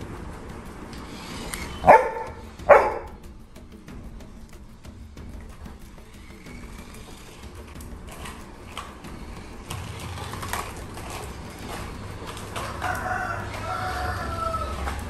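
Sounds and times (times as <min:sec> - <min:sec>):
toy car motor whirring: 0:00.0 - 0:03.3, 0:05.4 - 0:15.0.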